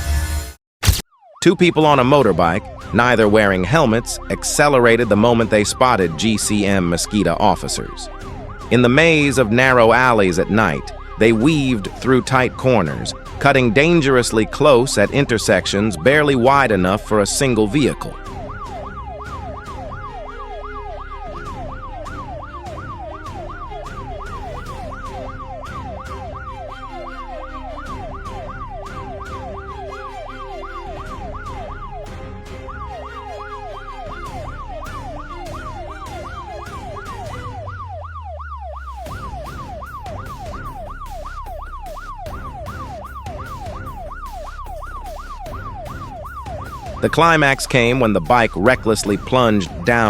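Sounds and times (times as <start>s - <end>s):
police siren yelping: 0.9s - 50.0s
background music with steady beat: 1.5s - 50.0s.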